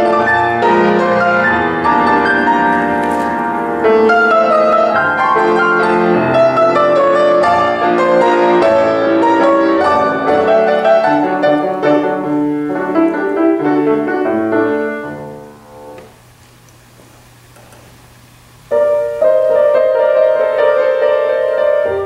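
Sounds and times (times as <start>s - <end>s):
grand piano chords and melody: 0.0s - 16.2s, 18.6s - 22.0s.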